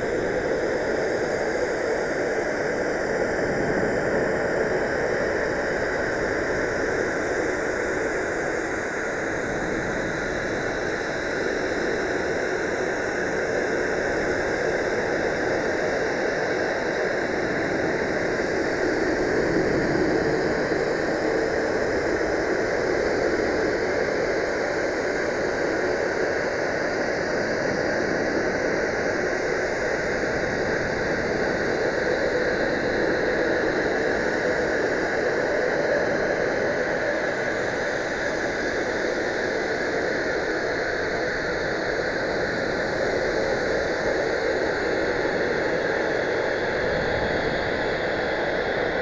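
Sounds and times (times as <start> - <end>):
dense noisy drone: 0.0 - 49.0.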